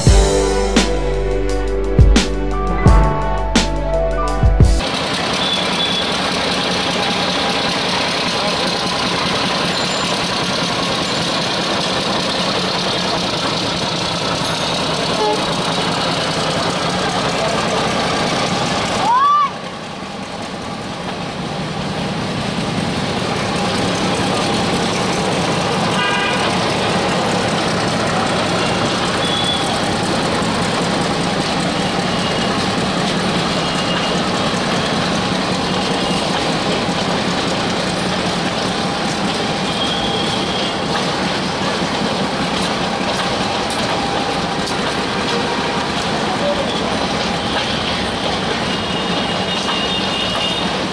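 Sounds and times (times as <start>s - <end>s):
diesel locomotive engine drone: 0.0s - 50.9s.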